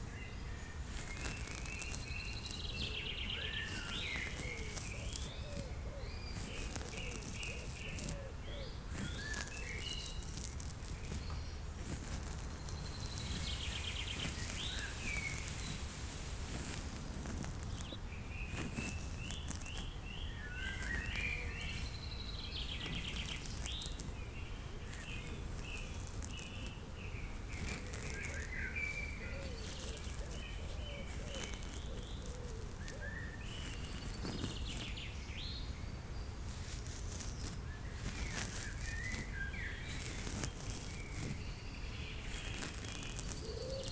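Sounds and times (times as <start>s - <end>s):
scratchy rustles: 0.0s - 43.9s
small birds chirping: 0.0s - 43.9s.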